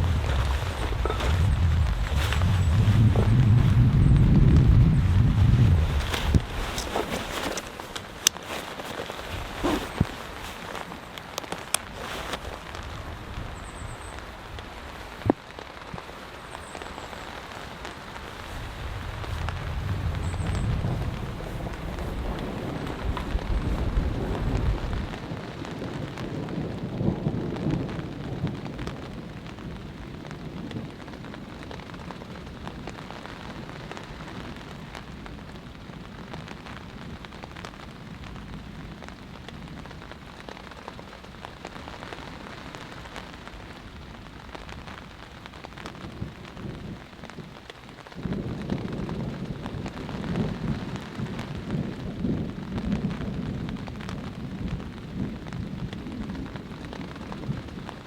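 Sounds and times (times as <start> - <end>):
low rumble of thunder: 0.0 - 8.6, 17.2 - 58.0
heavy rain falling: 0.0 - 58.0.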